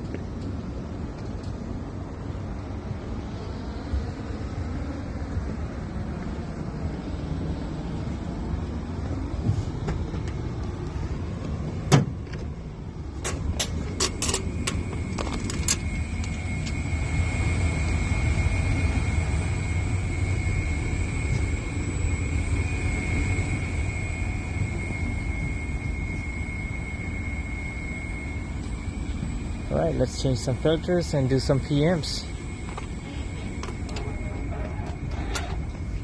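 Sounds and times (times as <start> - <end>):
high whine: 0.0 - 36.0
rooftop air conditioner rumbling: 0.0 - 36.0.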